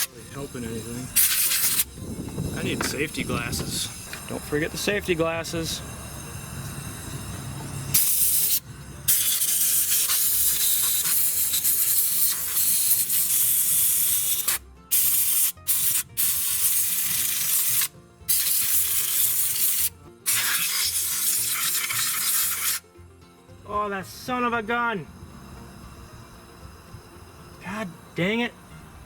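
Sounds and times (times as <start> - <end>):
compressed air blow gun hissing: 0.0 - 23.0, 25.1 - 29.0.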